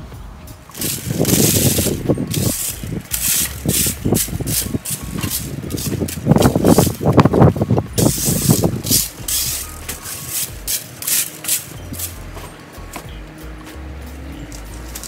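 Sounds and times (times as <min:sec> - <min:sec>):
rake scraping gravel and leaves: 0:00.6 - 0:13.8, 0:14.4 - 0:15.0.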